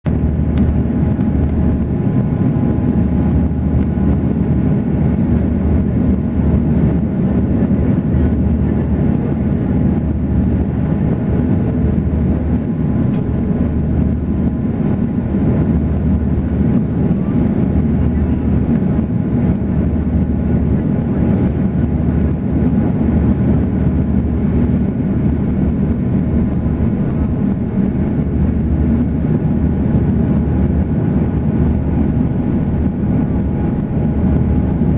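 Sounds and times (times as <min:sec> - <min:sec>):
airliner cabin engine hum: 0:00.0 - 0:34.9.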